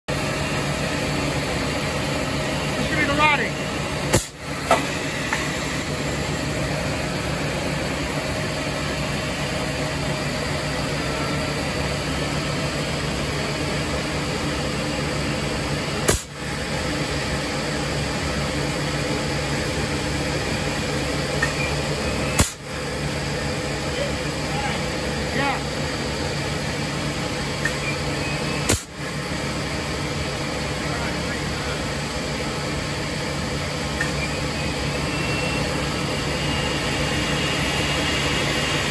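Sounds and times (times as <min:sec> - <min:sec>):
machinery drone: 0:00.1 - 0:38.9.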